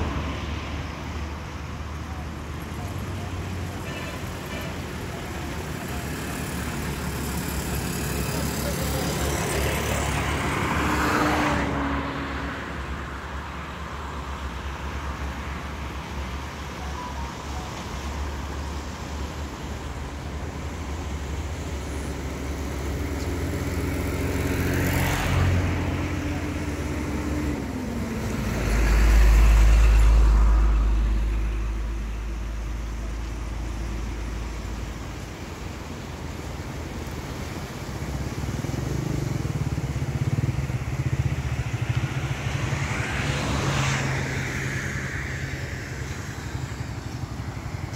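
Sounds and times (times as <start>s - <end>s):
road traffic rumble: 0.0s - 47.9s
vehicles passing: 0.0s - 47.9s.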